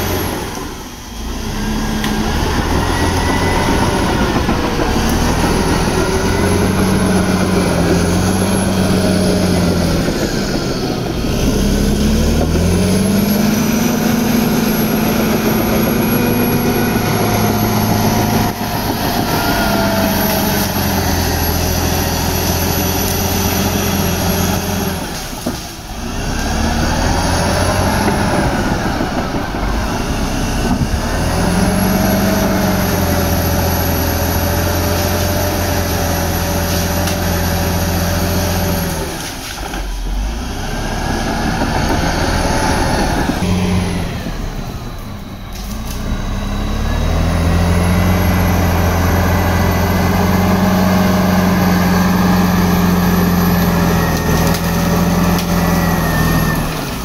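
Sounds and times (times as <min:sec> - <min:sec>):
bulldozer diesel engine working: 0:00.0 - 0:57.0.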